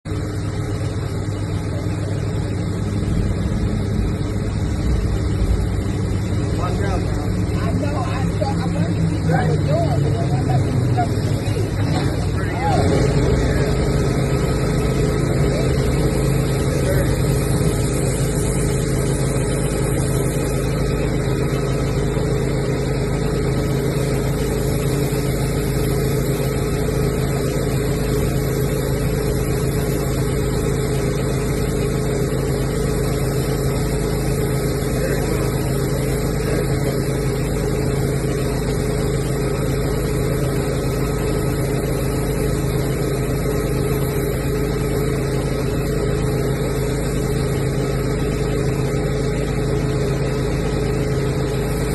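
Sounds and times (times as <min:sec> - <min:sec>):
machine motor humming: 0:00.1 - 0:51.9.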